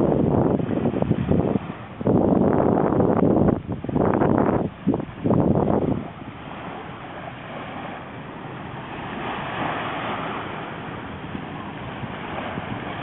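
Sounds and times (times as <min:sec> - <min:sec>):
river water lapping on shore: 0:00.0 - 0:13.0
wind rushing: 0:00.0 - 0:13.0.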